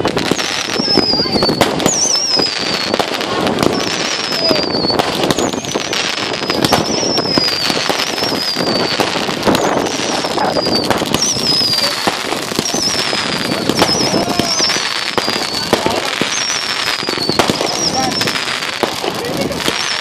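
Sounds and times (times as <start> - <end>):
falling firework whistles: 0.0 - 20.0
fireworks crackling pops: 0.0 - 20.0.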